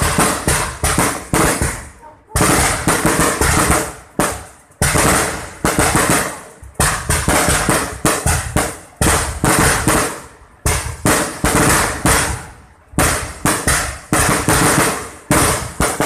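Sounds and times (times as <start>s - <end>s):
fireworks bursting bangs: 0.0s - 16.0s.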